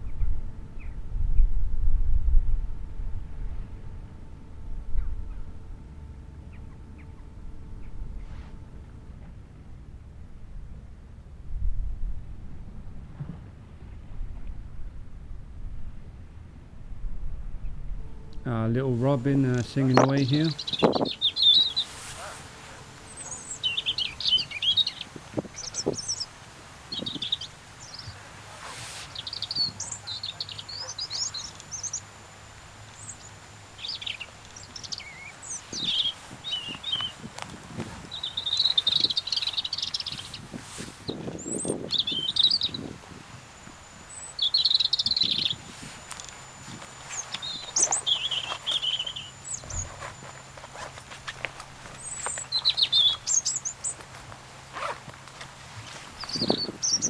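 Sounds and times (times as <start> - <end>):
robin singing: 0.0 - 13.0, 16.5 - 57.0.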